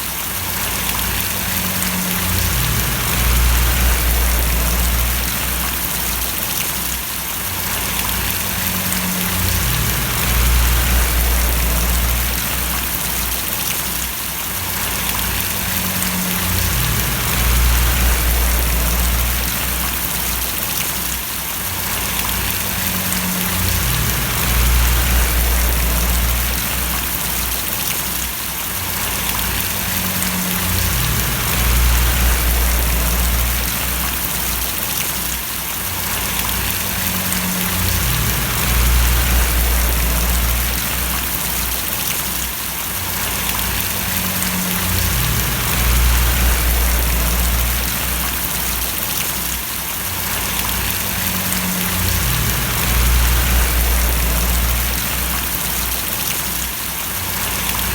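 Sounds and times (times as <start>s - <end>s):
rain falling and splashing: 0.0s - 57.9s
low hum: 0.7s - 6.6s, 7.8s - 13.9s, 14.8s - 20.8s, 21.9s - 28.1s, 29.0s - 35.0s, 36.1s - 42.4s, 43.2s - 49.4s, 50.2s - 56.6s.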